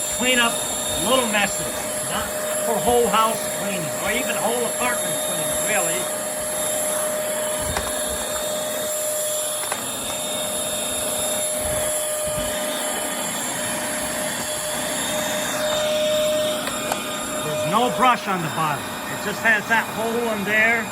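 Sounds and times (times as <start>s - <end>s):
stick vacuum running: 0.0s - 20.9s.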